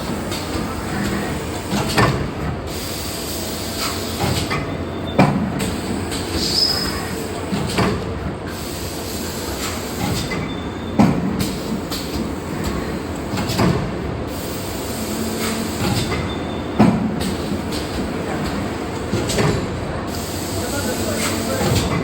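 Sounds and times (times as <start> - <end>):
hydraulic press running: 0.0 - 22.0.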